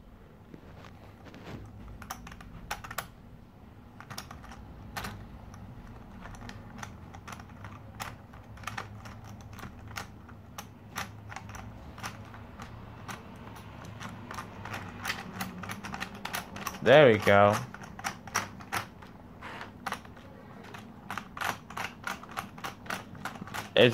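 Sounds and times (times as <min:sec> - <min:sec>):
toy crane mechanism clicking: 0:04.0 - 0:23.9.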